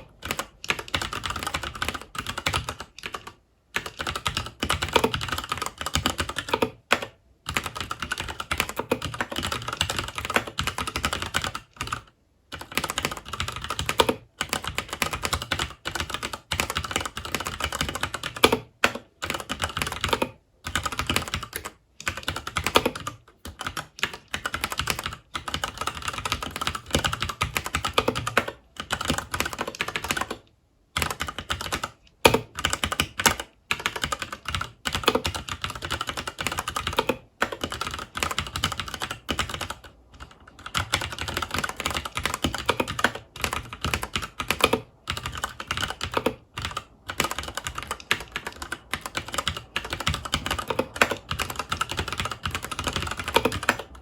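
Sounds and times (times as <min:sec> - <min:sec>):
mechanical keyboard typing: 0:00.0 - 0:54.0.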